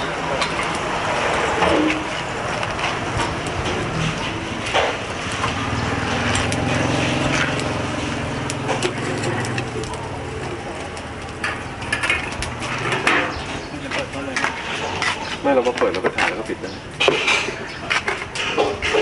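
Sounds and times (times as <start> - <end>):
metal tongs scraping charcoal: 0.0 - 19.0.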